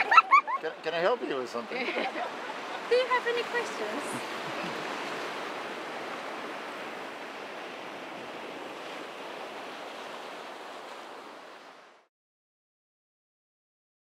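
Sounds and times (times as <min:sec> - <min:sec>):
ocean surf washing: 0:00.0 - 0:12.1.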